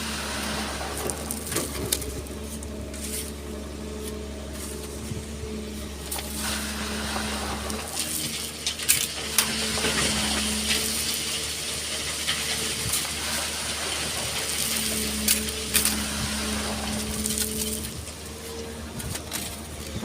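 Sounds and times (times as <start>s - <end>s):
pouring sand and stones hiss: 0.0s - 5.0s, 5.6s - 19.6s
diesel engine humming: 0.0s - 20.0s.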